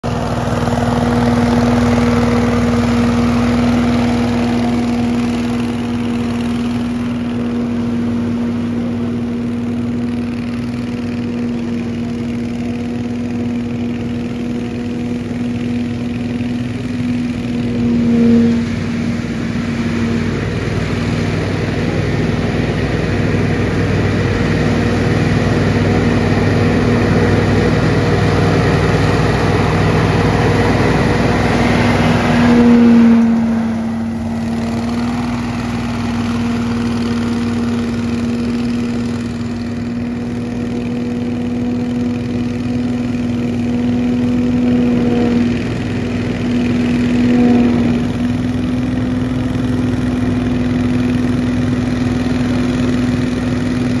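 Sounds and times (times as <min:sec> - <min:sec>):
leaf blower engine hum: 0:00.0 - 0:54.0.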